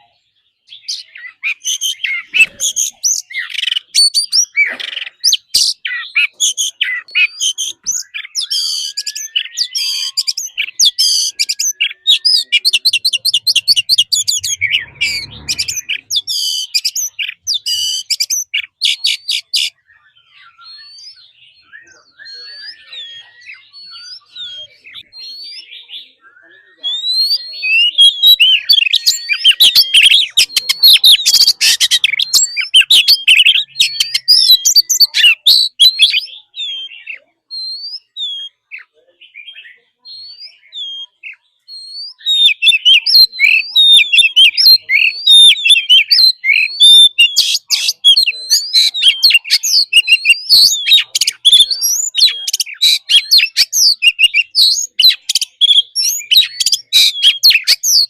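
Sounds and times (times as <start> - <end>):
bird singing whistling song: 0.0 - 58.0.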